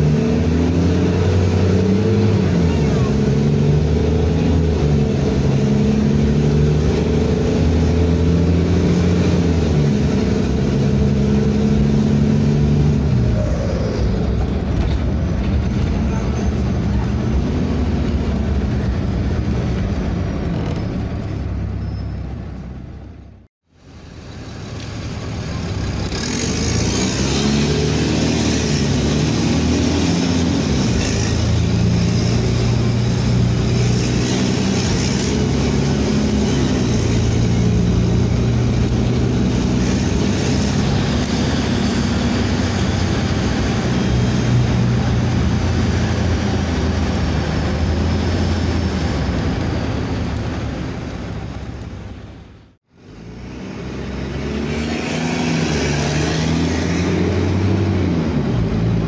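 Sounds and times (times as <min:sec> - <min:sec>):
bus diesel engine running: 0:00.0 - 0:54.4.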